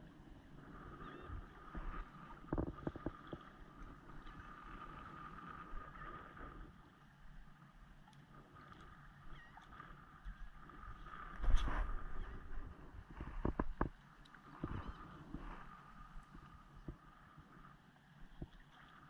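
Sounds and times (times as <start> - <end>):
water lapping and sloshing: 0.0 - 19.0.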